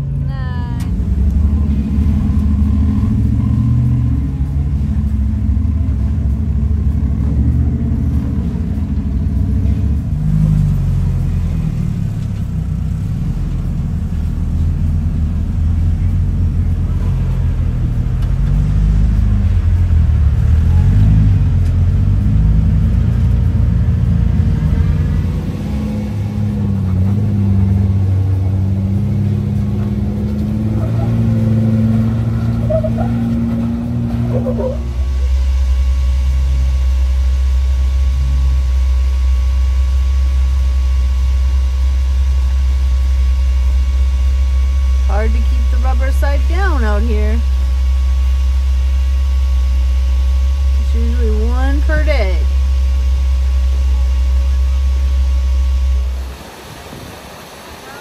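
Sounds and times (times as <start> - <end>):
off-road vehicle engines revving: 0.0 - 57.1.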